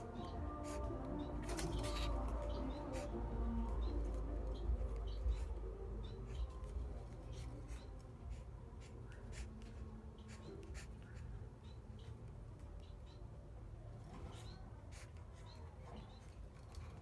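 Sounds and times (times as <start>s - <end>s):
faint bird chirps: 0.0s - 16.8s.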